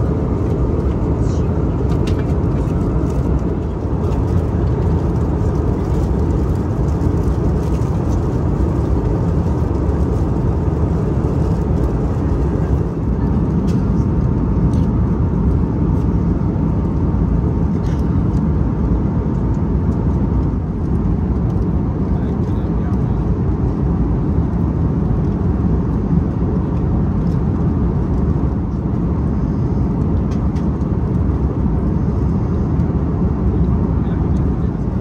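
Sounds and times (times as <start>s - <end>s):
airplane cabin noise: 0.0s - 35.0s.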